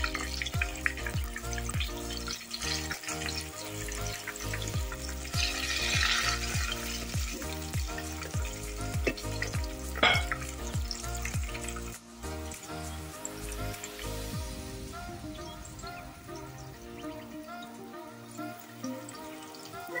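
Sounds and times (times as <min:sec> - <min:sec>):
background music with steady beat: 0:00.0 - 0:20.0
food sizzling in hot oil: 0:00.0 - 0:20.0.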